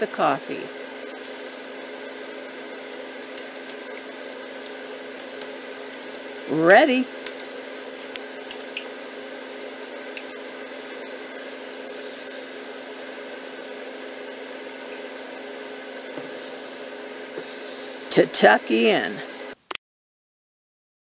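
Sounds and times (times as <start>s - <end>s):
steady electrical hum: 0.0s - 19.7s.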